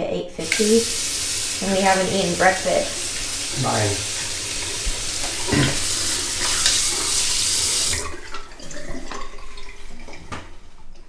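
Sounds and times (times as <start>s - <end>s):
water running from tap: 0.4s - 10.8s.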